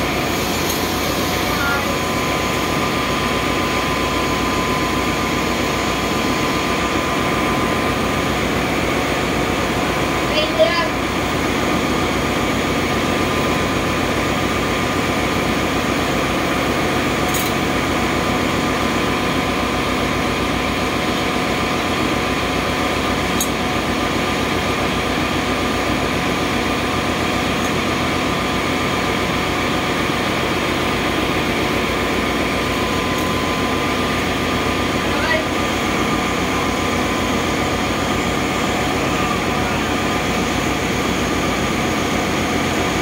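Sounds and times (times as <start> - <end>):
ship engine machinery drone: 0.0 - 43.0.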